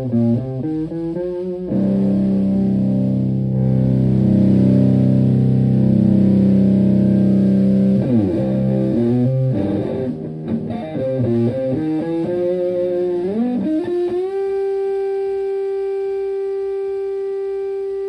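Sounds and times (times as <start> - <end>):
fuzz electric guitar lead: 0.0 - 18.0.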